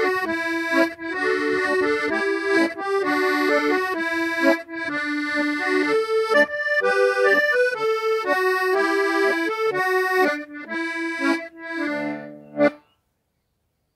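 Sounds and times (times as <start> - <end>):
reedy instrument melody: 0.0 - 12.8.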